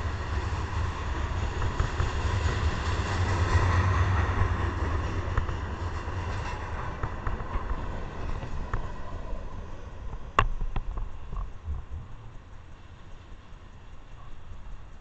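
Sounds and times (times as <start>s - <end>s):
freight train rail noise: 0.0s - 15.0s.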